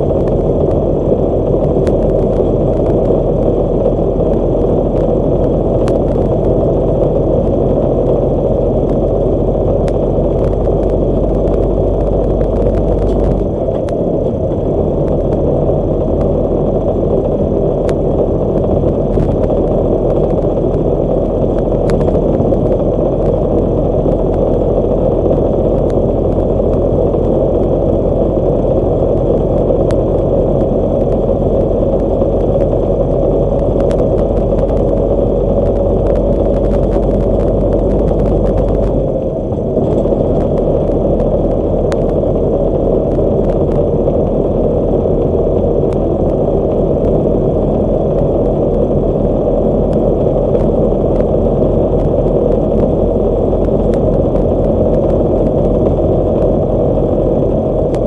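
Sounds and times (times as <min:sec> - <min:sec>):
truck engine and tyre noise: 0:00.0 - 0:58.0.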